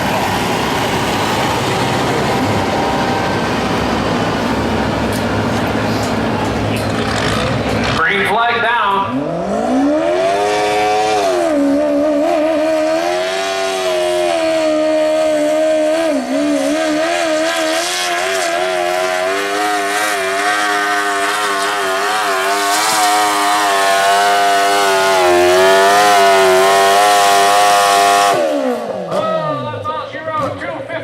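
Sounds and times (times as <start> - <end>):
lawn tractor engine revving: 0.0 - 8.2, 9.1 - 29.2.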